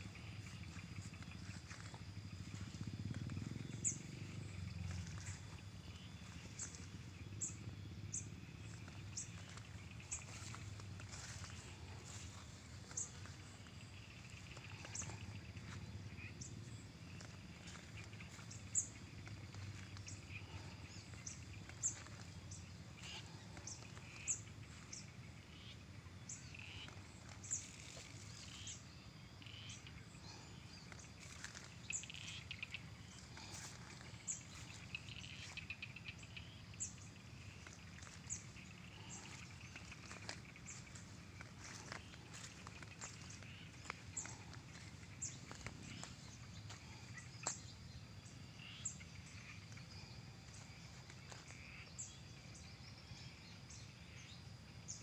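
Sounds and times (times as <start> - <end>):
low steady rumble: 0.0 - 47.4.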